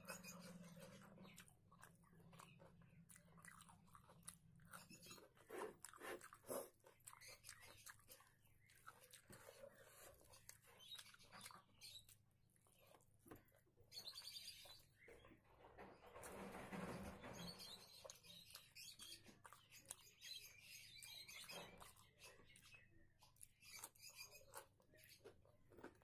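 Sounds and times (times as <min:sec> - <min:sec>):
wet chewing with mouth clicks: 0:00.0 - 0:15.2, 0:17.4 - 0:26.0.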